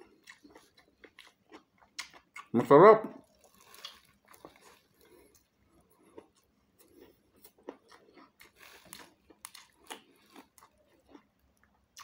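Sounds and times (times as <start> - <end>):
person chewing food: 0.0 - 2.5, 3.2 - 12.0.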